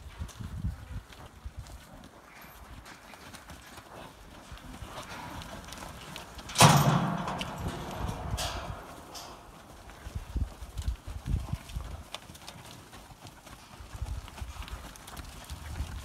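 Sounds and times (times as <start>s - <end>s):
cattle hooves on dirt: 0.0s - 16.0s.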